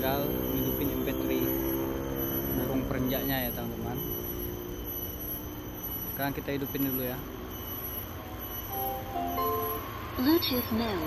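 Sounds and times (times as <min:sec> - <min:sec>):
faint high-pitched tones: 0:00.0 - 0:11.0
traffic rumble and hiss: 0:00.0 - 0:11.0.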